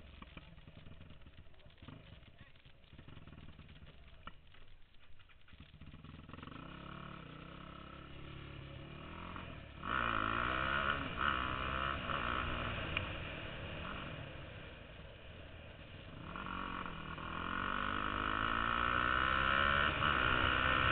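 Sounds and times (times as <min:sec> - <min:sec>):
quad bike engine revving: 0:00.0 - 0:04.3, 0:05.4 - 0:14.7, 0:16.0 - 0:20.9.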